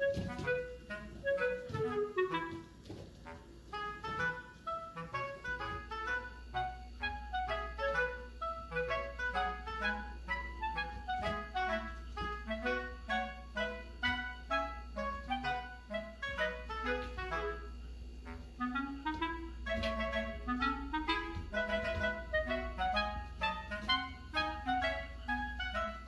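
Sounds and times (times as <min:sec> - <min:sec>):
light bouncy background music: 0:00.0 - 0:26.0.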